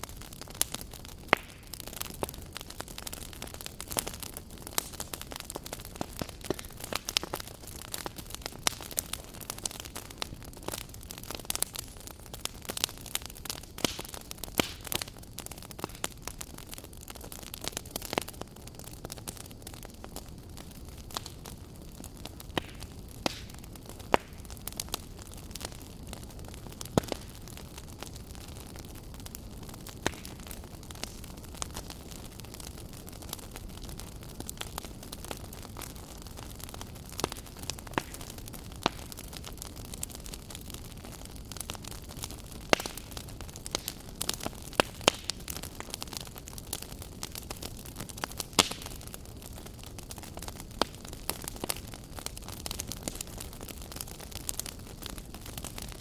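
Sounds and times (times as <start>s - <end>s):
fire crackling and popping: 0.0s - 56.0s
low hiss of fire: 0.0s - 56.0s.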